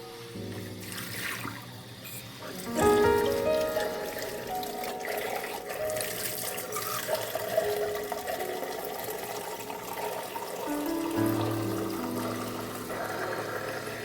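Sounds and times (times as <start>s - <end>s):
tap water running into sink: 0.5s - 1.8s, 2.5s - 14.0s.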